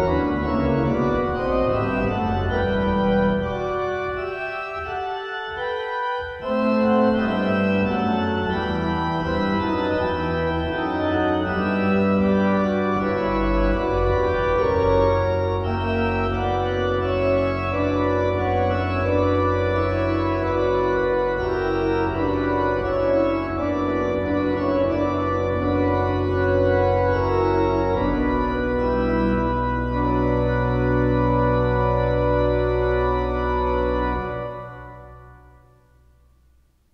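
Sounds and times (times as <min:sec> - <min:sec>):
pipe organ playing: 0:00.0 - 0:35.8.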